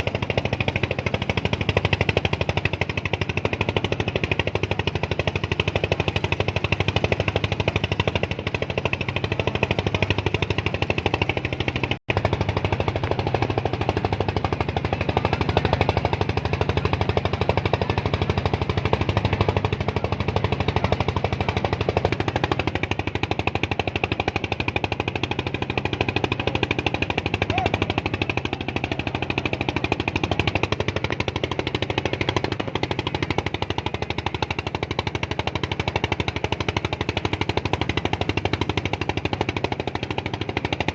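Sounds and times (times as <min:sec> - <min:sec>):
small engine chugging: 0:00.0 - 0:40.9.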